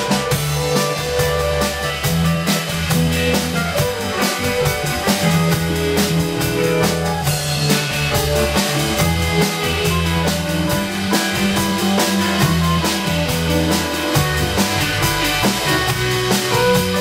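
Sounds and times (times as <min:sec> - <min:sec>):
drum kit beat: 0:00.0 - 0:17.0
rock band playing instrumental: 0:00.0 - 0:17.0.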